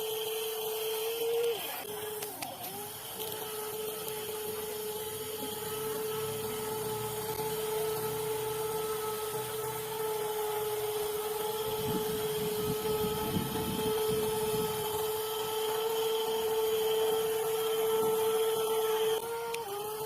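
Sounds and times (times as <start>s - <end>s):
electric motors whining: 0.0s - 20.0s.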